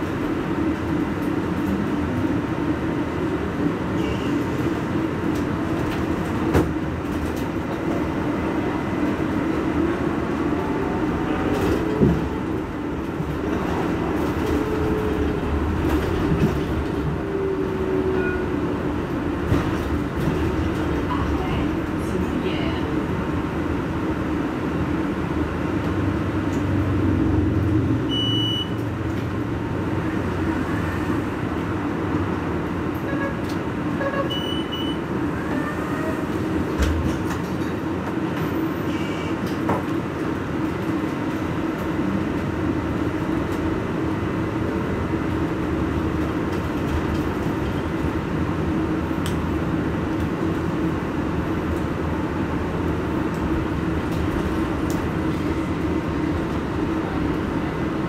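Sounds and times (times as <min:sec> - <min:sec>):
electric bus hum: 0:00.0 - 0:58.0.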